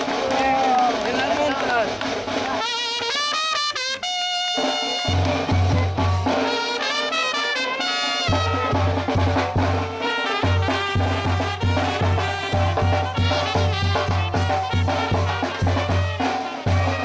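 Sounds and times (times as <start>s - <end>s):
drums: 0.0s - 17.0s
trumpets and trombones melody: 2.6s - 17.0s.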